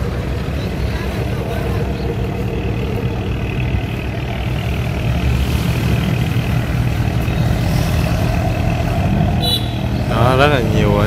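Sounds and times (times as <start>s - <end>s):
barge diesel engines droning: 0.0s - 11.0s.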